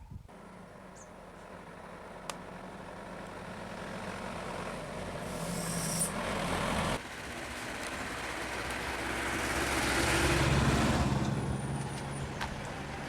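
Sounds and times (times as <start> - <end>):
vehicle engine running: 0.3 - 13.0.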